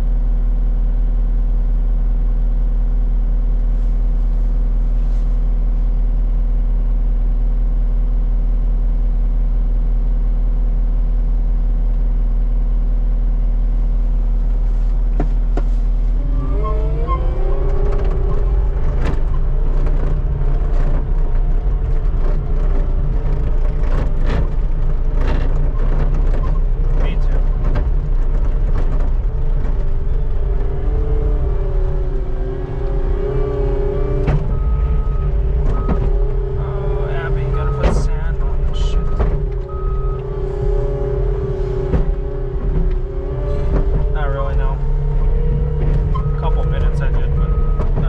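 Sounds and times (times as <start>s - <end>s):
skid steer engine running: 0.0s - 48.0s.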